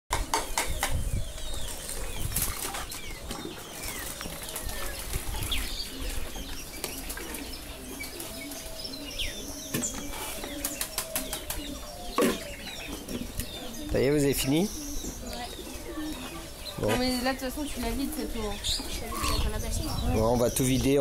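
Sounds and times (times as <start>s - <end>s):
bird chirps: 0.1s - 21.0s.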